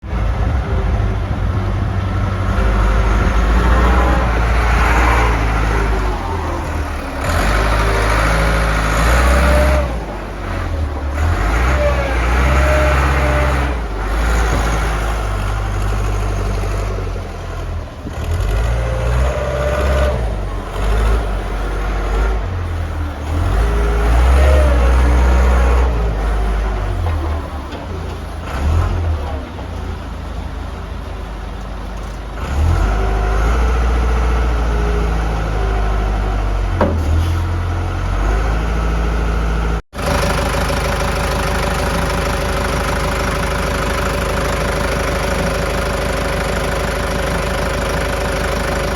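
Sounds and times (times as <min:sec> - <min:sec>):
loader diesel engine revving: 0:00.0 - 0:48.9.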